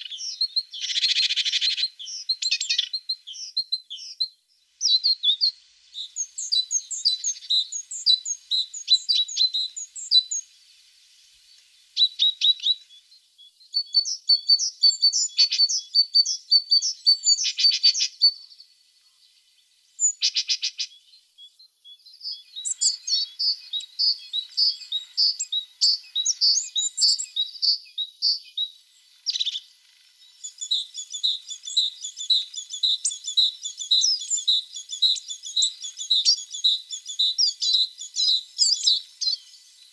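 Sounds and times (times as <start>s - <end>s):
tits singing rapid chirps: 0.0s - 18.8s, 19.4s - 39.9s.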